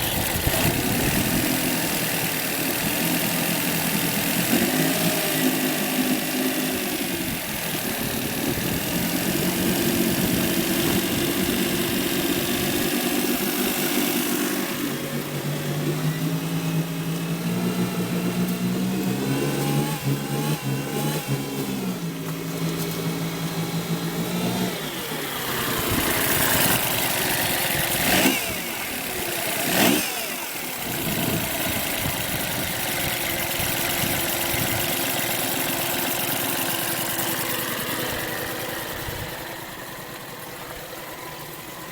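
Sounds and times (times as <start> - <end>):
outboard motor revving: 0.0 - 41.9.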